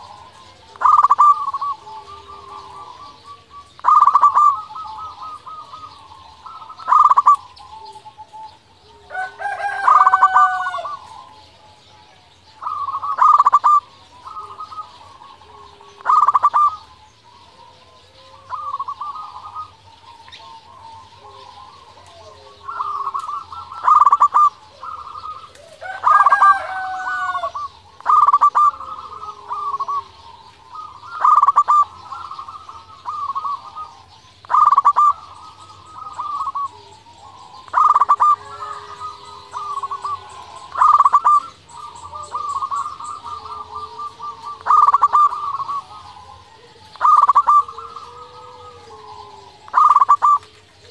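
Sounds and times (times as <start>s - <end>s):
dove cooing song: 0.0s - 50.9s.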